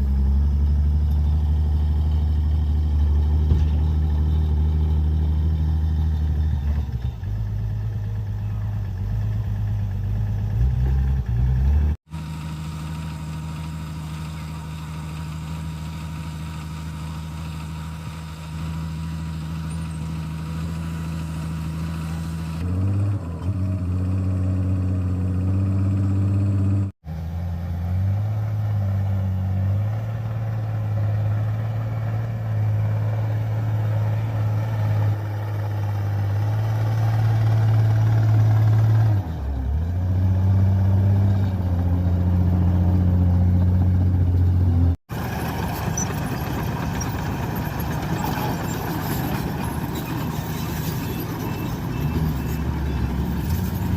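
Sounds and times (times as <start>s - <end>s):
bulldozer diesel engine droning: 0.0s - 53.9s.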